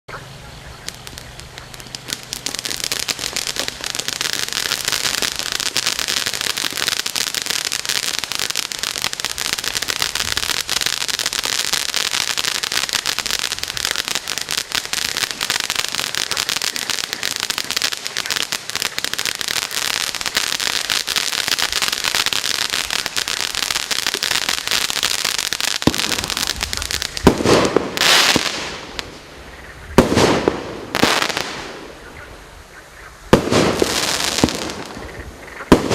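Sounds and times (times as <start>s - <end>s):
firework crackle: 0.5s - 35.9s
loud firework bangs: 0.9s - 29.2s, 29.9s - 32.1s, 33.3s - 35.9s.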